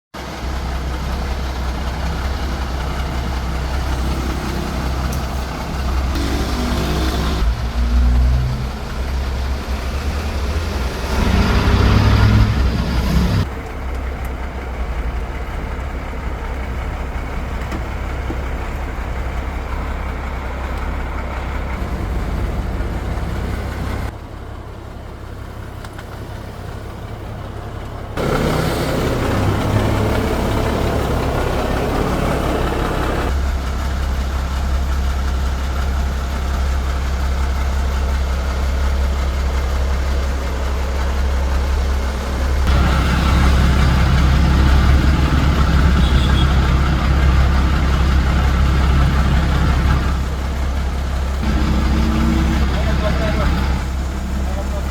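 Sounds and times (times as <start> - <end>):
low engine rumble: 0.2 - 54.9.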